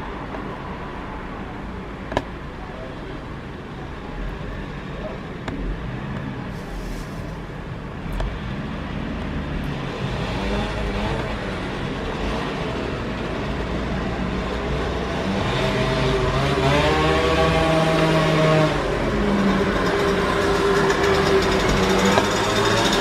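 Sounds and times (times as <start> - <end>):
low traffic rumble: 0.0 - 23.0
vehicle engine running: 0.9 - 23.0.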